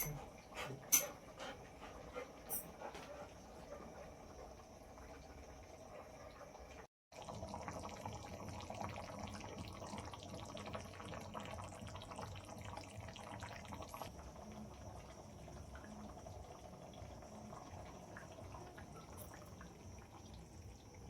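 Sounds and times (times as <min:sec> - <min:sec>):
watery noise with fine crackles: 0:00.2 - 0:21.0.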